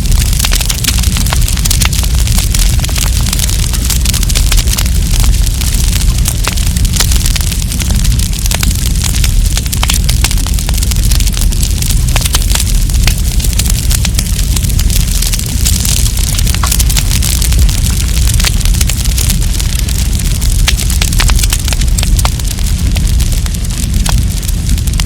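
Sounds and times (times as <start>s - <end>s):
campfire crackling and popping: 0.0s - 25.0s
low rumble of burning fire: 0.0s - 25.0s.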